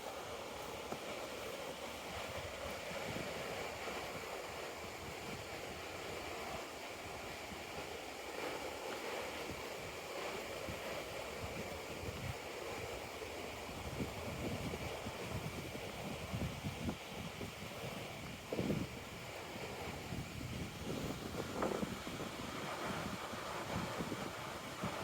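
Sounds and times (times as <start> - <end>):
river water rushing over rocks: 0.0 - 25.0.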